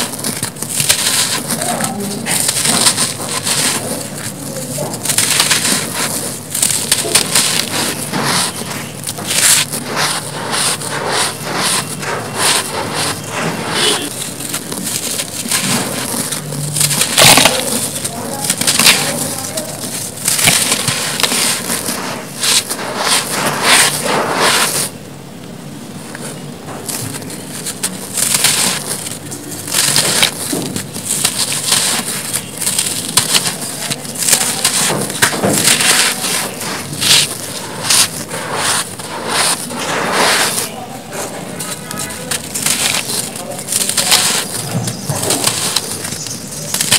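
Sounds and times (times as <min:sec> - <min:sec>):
cement powder crunching in hands: 0:00.0 - 0:25.0, 0:26.2 - 0:46.9.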